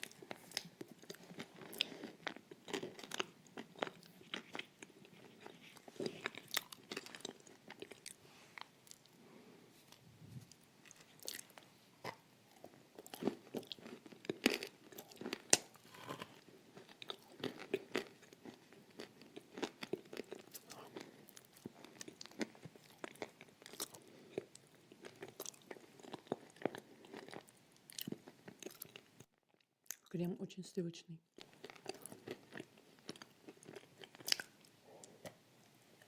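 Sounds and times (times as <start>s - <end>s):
mouth chewing and crunching: 0.0s - 9.2s, 10.5s - 30.1s, 31.4s - 35.5s.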